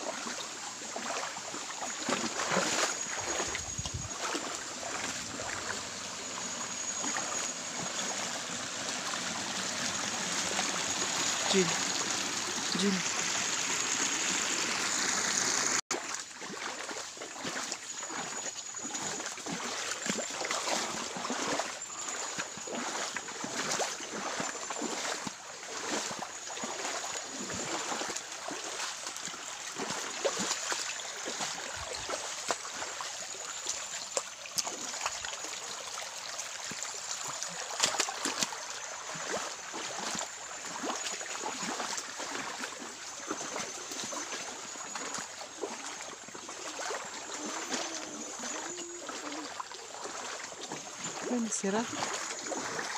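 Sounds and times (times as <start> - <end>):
creek trickling: 0.0 - 52.9.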